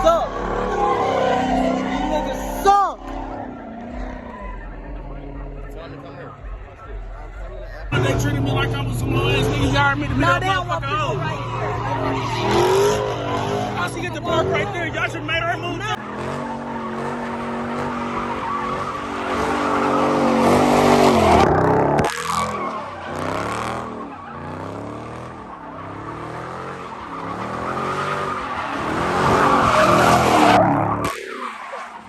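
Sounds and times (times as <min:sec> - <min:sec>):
tyres screeching: 0:00.0 - 0:05.5, 0:08.0 - 0:32.0
car engine revving: 0:00.0 - 0:32.0.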